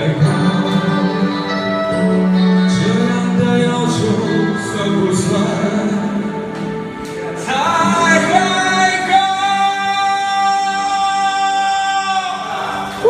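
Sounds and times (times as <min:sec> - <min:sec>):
musical accompaniment: 0:00.0 - 0:13.0
person singing a pop song: 0:00.0 - 0:13.0.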